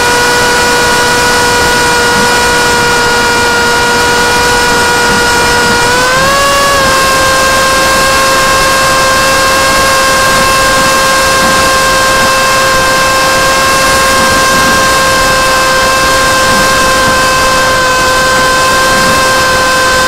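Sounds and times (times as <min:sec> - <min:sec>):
high-pitched electric motor whine: 0:00.0 - 0:20.0.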